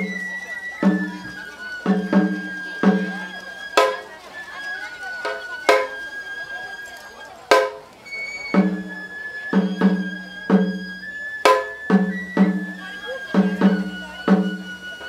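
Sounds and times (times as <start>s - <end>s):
taiko drum strokes: 0.0s - 4.3s, 5.2s - 6.1s, 7.5s - 15.0s
bamboo flute long notes: 0.0s - 15.0s.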